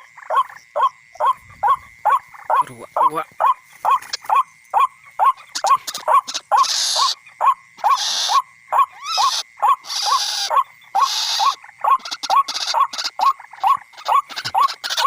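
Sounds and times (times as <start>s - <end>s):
waterhen calls: 0.0s - 15.0s.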